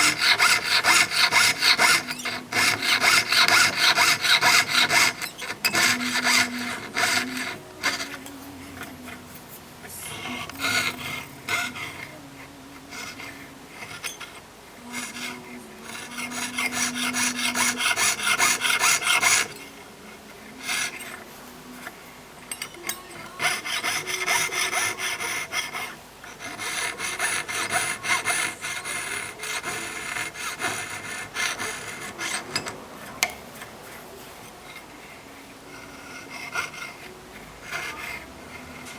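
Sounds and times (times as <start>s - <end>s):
hand saw rasping through metal sheet: 0.0s - 19.9s, 20.6s - 35.1s, 35.7s - 38.9s.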